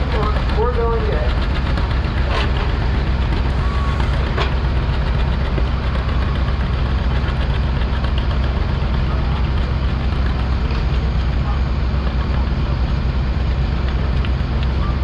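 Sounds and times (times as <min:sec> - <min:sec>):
tractor engine running hard: 0:00.0 - 0:15.0.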